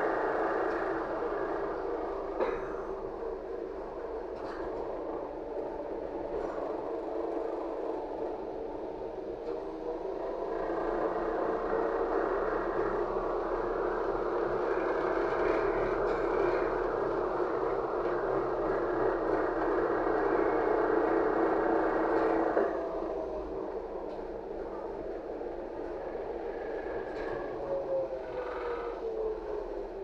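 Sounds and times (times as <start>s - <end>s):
trolleybus cabin running noise: 0.0s - 30.0s.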